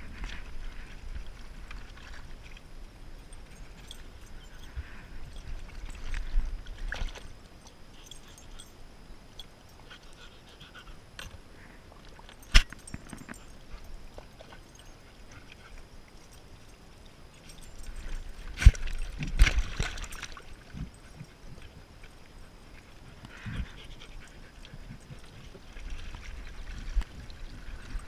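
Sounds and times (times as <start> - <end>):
dogs lapping water: 0.7 - 8.8, 12.0 - 28.0.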